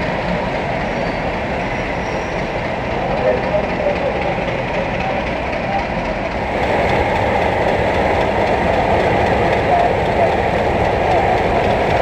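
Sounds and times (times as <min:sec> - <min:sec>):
diesel locomotive engine running: 0:00.0 - 0:12.0
train rail noise: 0:00.0 - 0:12.0.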